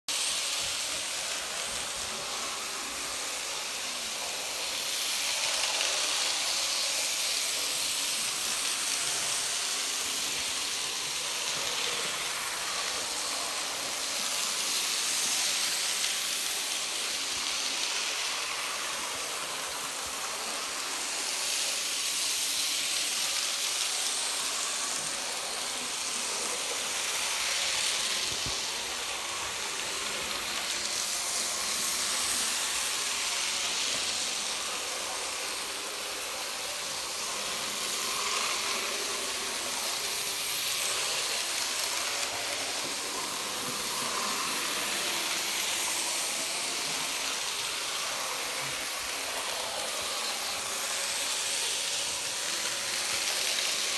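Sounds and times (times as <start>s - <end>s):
model trains hissing: 0.0s - 53.9s.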